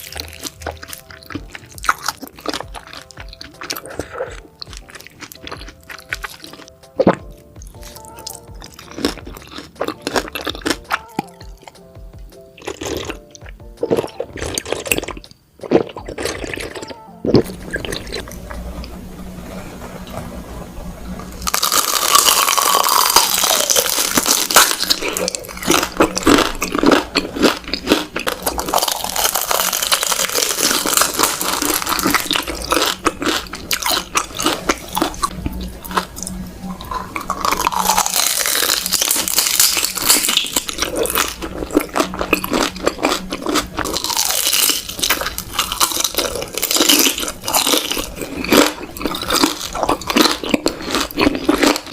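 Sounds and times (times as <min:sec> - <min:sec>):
close biting and chewing: 0:00.0 - 0:11.9, 0:12.6 - 0:18.5, 0:21.4 - 0:51.9.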